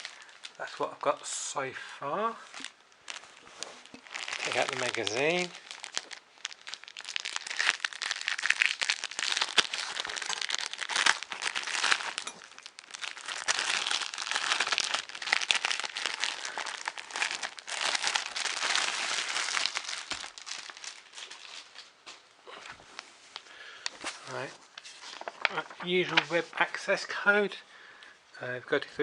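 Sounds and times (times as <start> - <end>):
plastic packaging crinkling: 0.0 - 1.2, 2.3 - 22.3, 22.9 - 26.9.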